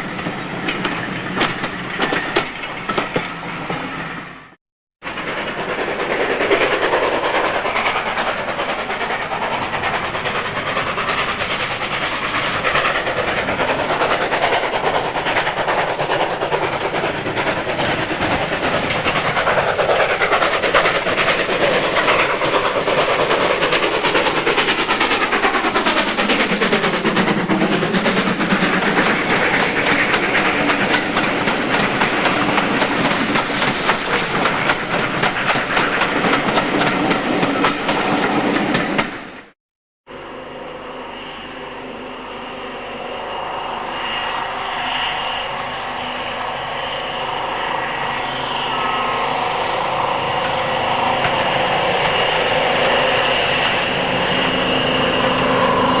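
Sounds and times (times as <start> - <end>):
train wheels clattering on track: 0.0 - 39.6, 42.9 - 56.0.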